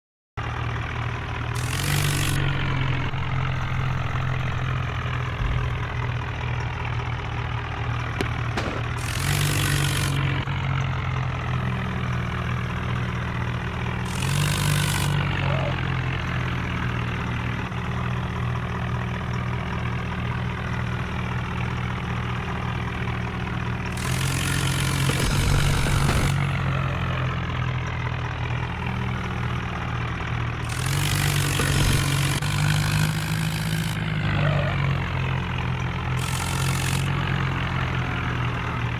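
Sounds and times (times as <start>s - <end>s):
tractor diesel engine running: 0.4s - 38.9s.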